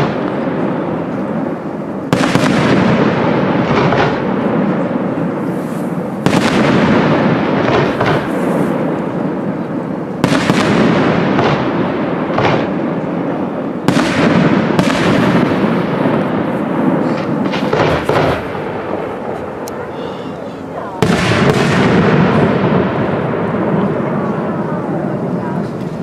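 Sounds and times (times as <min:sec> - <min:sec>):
fireworks rumbling barrage: 0:00.0 - 0:26.0
sharp firework bangs: 0:00.0 - 0:26.0.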